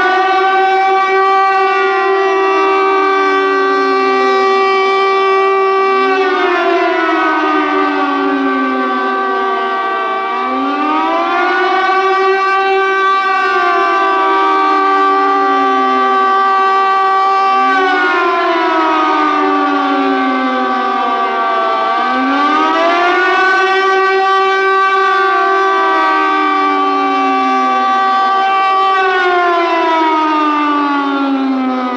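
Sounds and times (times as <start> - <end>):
air raid siren wailing: 0.0 - 31.9.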